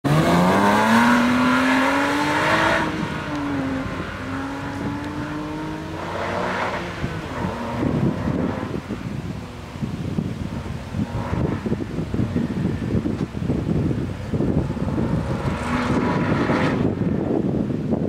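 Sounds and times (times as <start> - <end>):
car engine accelerating hard: 0.0 - 17.6.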